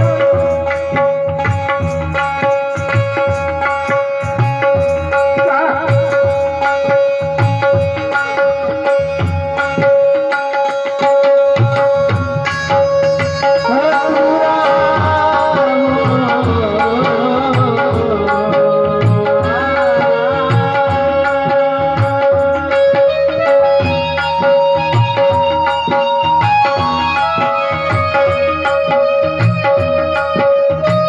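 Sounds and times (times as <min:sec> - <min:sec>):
harmonium drone and melody: 0:00.0 - 0:31.0
tabla rhythm: 0:00.0 - 0:31.0.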